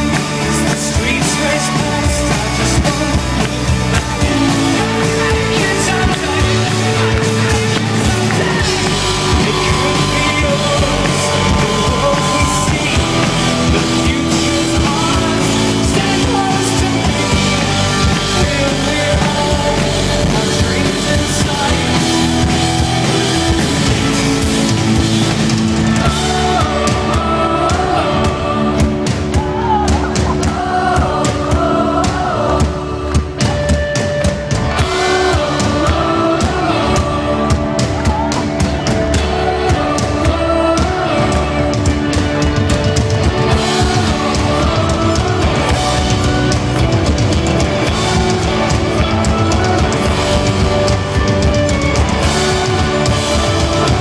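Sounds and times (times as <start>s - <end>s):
live rock band: 0.0s - 54.0s
singer vocals: 0.0s - 54.0s.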